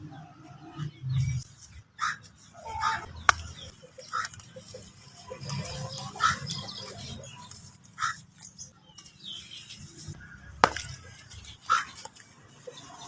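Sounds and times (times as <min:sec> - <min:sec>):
crunchy food eating: 0:01.4 - 0:13.0.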